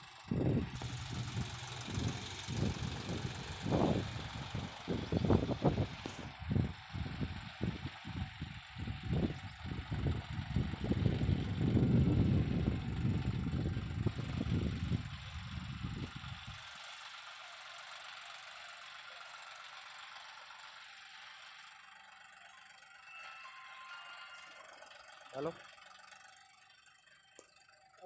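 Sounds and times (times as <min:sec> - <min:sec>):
tractor diesel engine chugging: 0:00.0 - 0:28.0.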